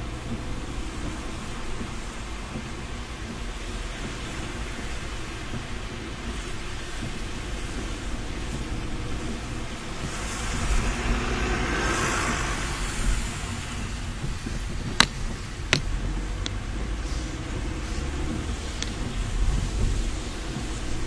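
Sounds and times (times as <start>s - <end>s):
engine and road rumble: 0.0s - 21.0s
tyres hissing on wet road: 0.0s - 21.0s.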